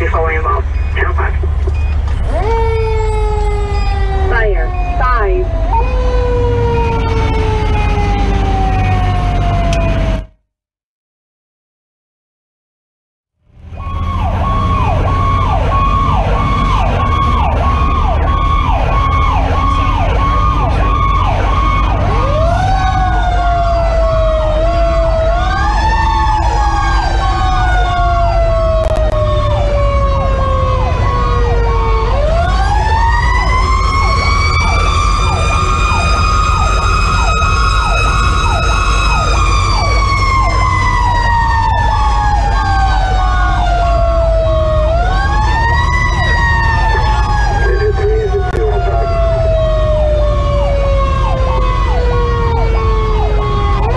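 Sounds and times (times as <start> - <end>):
truck engine and road rumble: 0.0 - 10.4, 13.4 - 53.9
slow wailing siren: 0.1 - 10.3, 13.5 - 53.9
fast sweeping siren: 2.1 - 10.3, 13.7 - 53.9.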